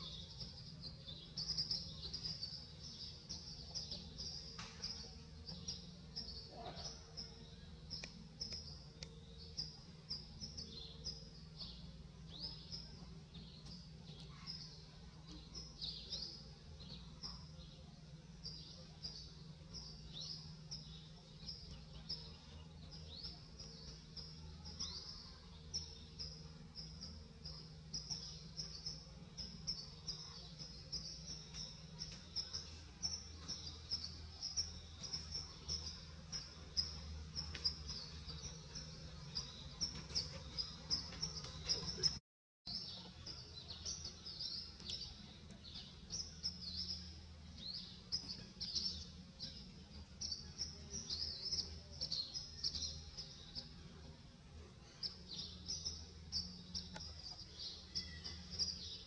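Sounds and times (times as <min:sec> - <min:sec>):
birds and insects chirping: 0:00.0 - 0:59.0
low steady hum: 0:00.0 - 0:59.0.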